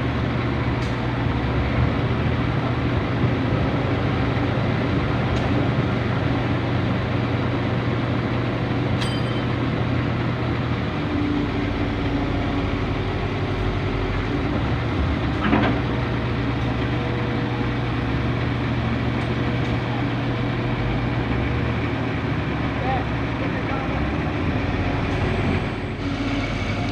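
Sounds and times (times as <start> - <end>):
heavy diesel machinery running: 0.0 - 26.9.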